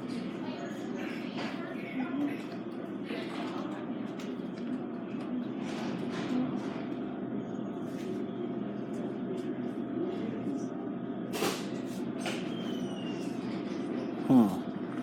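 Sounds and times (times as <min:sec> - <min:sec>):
hospital room hum: 0:00.0 - 0:15.0.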